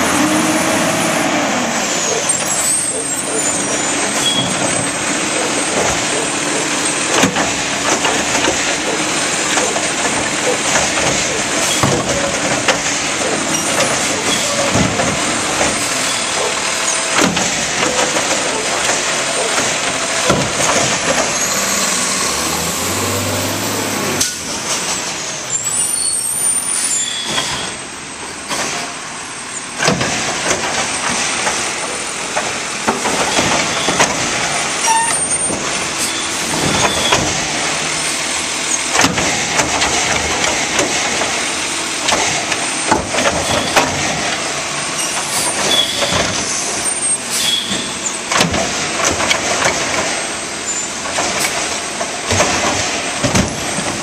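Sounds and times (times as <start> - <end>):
diesel engine running: 0.0 - 54.0
carts and arm clattering: 2.0 - 25.2, 29.8 - 54.0.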